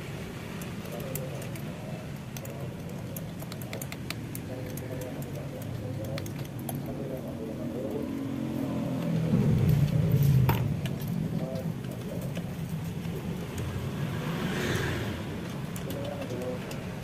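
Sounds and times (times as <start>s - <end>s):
vehicle hum: 0.0s - 17.0s.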